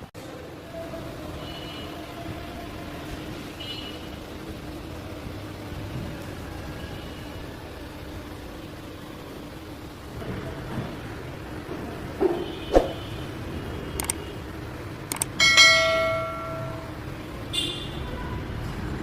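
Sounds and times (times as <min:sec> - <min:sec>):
vehicle engine running: 0:02.5 - 0:19.0.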